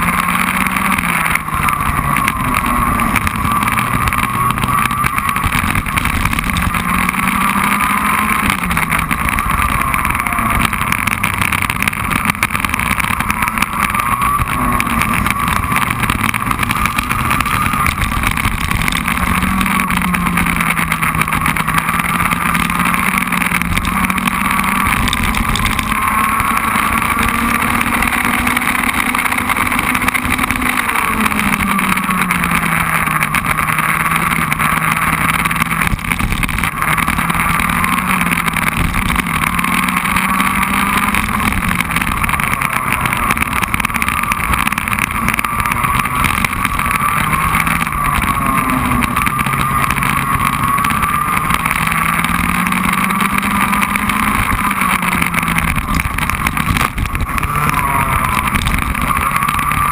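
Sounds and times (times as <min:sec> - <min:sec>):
race car engine: 0:00.0 - 0:59.9
wind noise: 0:00.0 - 0:59.9.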